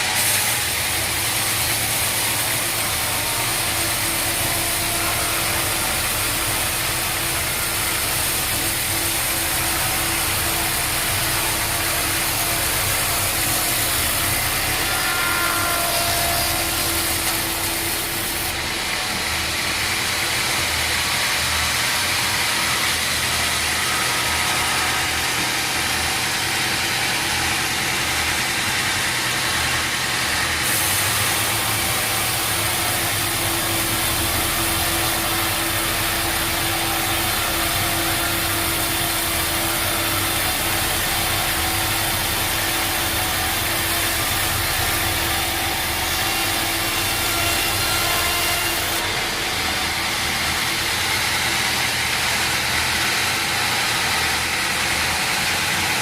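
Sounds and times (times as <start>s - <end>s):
sawmill machinery noise: 0.0s - 56.0s.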